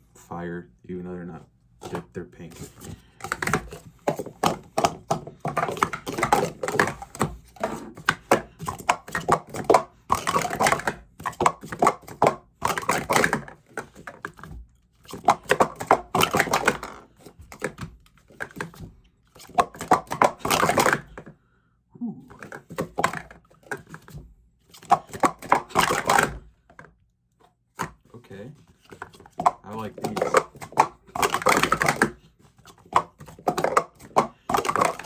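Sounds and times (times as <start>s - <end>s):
plastic cups clacking: 1.8s - 21.4s, 22.3s - 26.9s, 27.8s - 35.0s.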